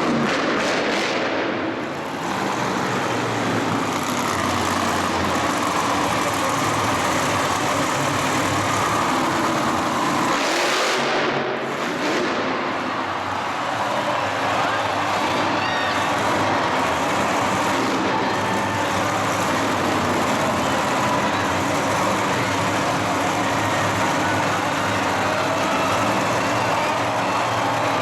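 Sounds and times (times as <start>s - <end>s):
racing engines running: 0.0s - 28.0s.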